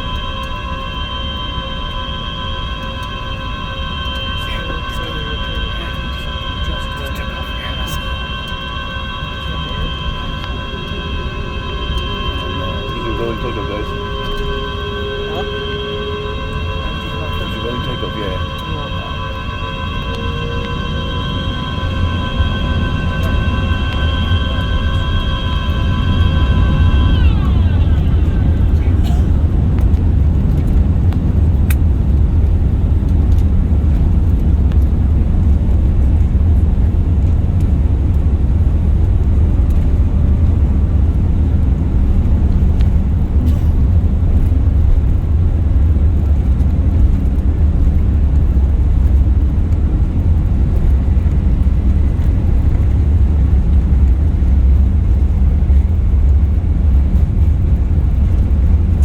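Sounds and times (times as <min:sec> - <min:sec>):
jet engines rumbling: 0:00.0 - 0:59.0
rushing airflow: 0:00.0 - 0:59.0.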